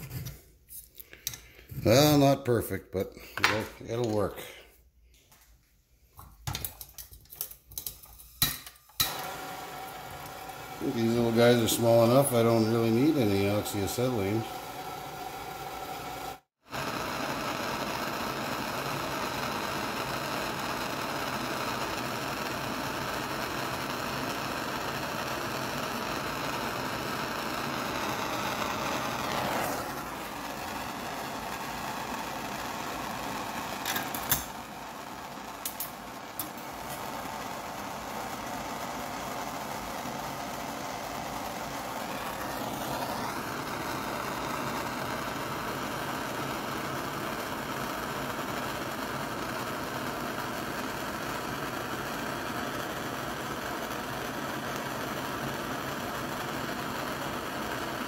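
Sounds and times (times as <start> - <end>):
gas torch hissing: 0.0 - 4.8, 7.9 - 58.0.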